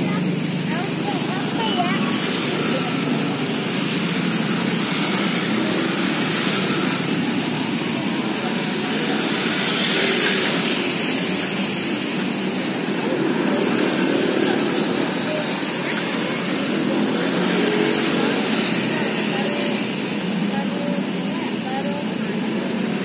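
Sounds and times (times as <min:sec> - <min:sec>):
motorbikes passing: 0:00.0 - 0:23.0
street traffic: 0:00.0 - 0:23.0.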